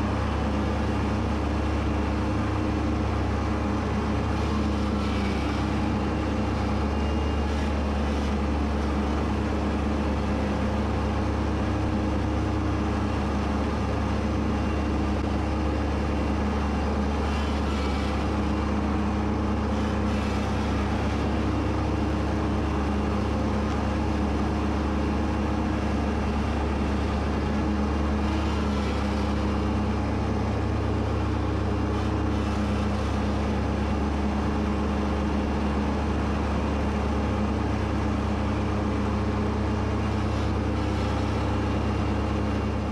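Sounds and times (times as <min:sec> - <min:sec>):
diesel tractor running: 0:00.0 - 0:42.9
mower cutting grass: 0:00.0 - 0:42.9.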